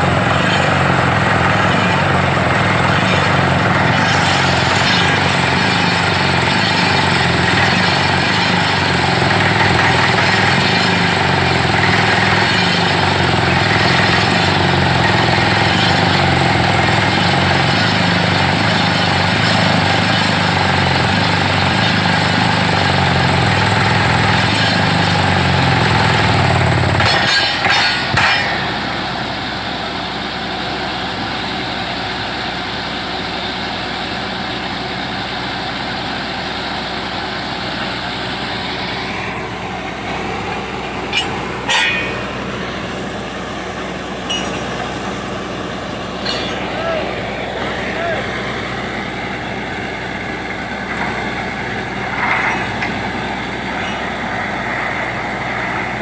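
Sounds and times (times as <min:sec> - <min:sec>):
drilling rig running: 0:00.0 - 0:56.0.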